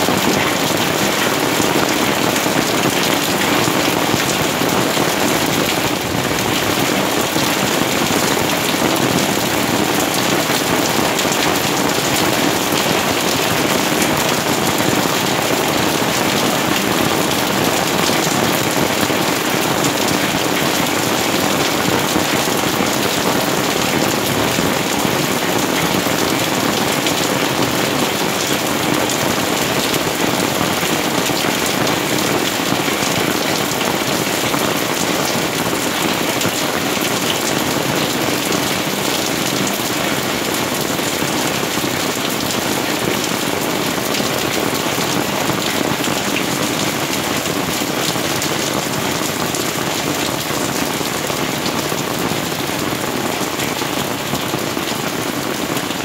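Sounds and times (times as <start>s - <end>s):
heavy rain on plants: 0.0s - 56.0s.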